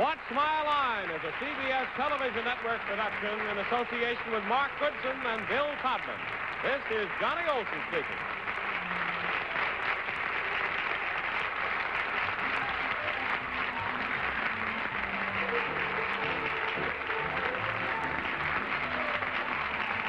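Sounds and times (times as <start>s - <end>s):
audience applauding: 0.0s - 20.0s
faint music: 0.0s - 20.0s.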